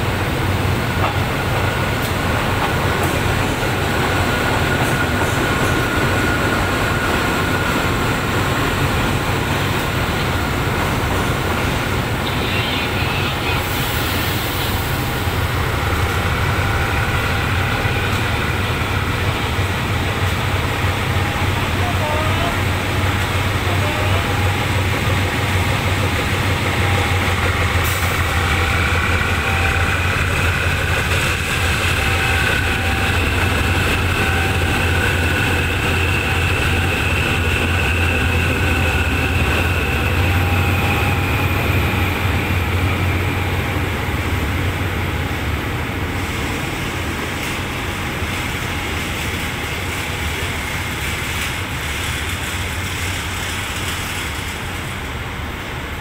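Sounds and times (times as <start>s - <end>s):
diesel locomotive engine drone: 0.0s - 56.0s
locomotive whine: 0.0s - 56.0s.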